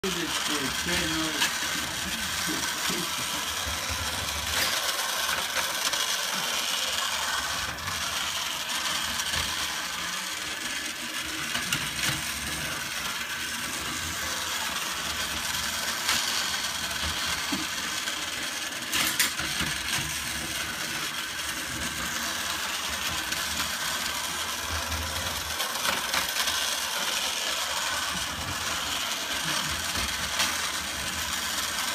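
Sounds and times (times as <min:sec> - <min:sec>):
toy train motor rattling: 0:00.0 - 0:31.9.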